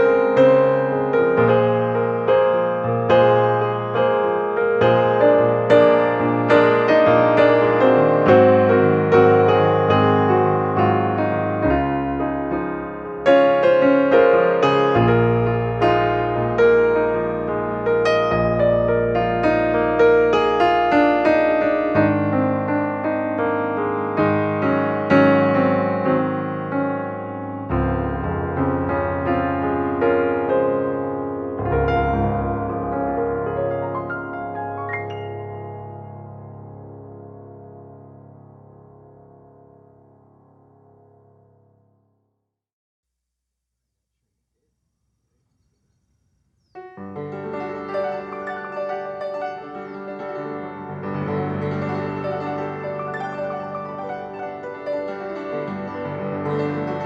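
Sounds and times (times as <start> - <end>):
gentle piano music: 0.0 - 42.0, 46.7 - 57.0.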